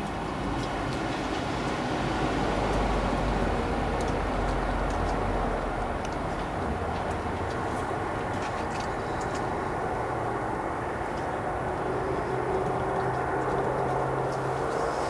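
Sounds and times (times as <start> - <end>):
distant vehicle rumble: 0.0 - 15.0.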